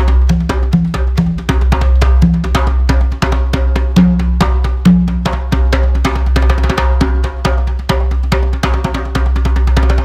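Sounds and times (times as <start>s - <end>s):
conga drums fast pattern: 0.0s - 10.0s.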